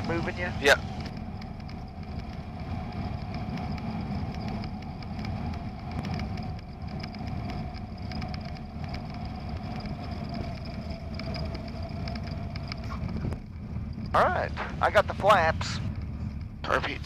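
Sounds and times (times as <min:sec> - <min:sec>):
aircraft engine drone in cabin: 0:00.0 - 0:17.0.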